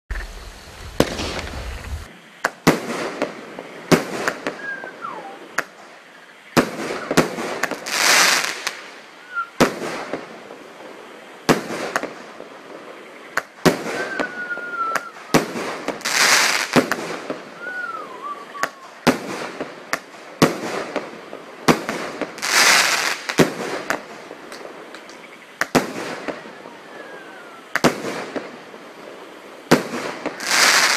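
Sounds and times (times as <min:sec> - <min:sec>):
firework reports: 0:00.1 - 0:05.9, 0:06.5 - 0:30.9
firework hissing crackle: 0:00.1 - 0:30.9.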